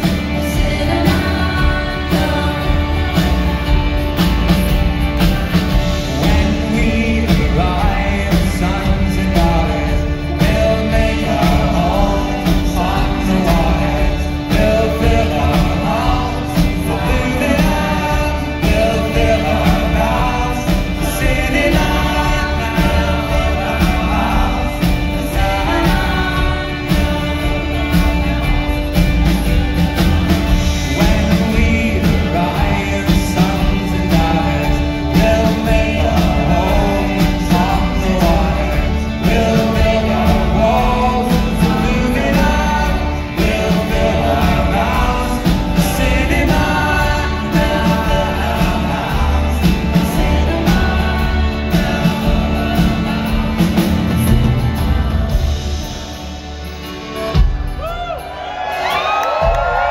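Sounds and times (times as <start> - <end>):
acoustic guitar: 0.0 - 59.9
drums: 0.0 - 59.9
person singing: 0.0 - 59.9
upright bass: 0.0 - 59.9.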